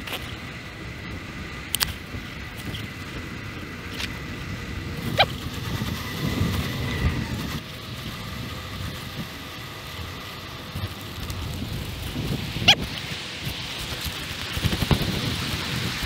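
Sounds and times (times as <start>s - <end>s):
bike tyre rumble on asphalt: 0.0s - 16.0s
wind buffeting microphone: 0.0s - 16.0s.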